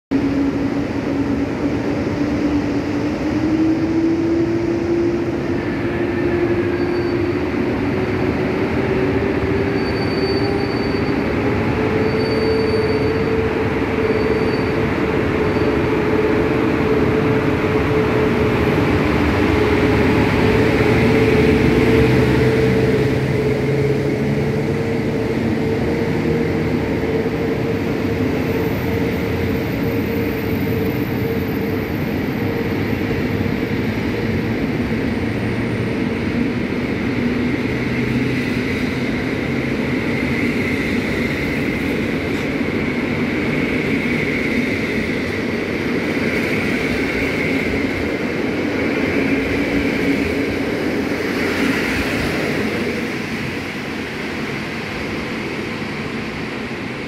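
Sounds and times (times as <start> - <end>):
electric locomotive whine: 0.1 - 57.0
rumble of train wheels: 0.1 - 57.0.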